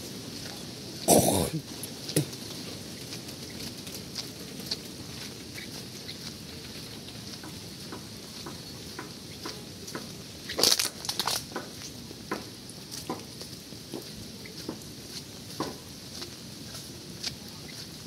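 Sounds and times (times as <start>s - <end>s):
rain pattering on umbrella: 0.0s - 8.3s, 9.2s - 18.0s.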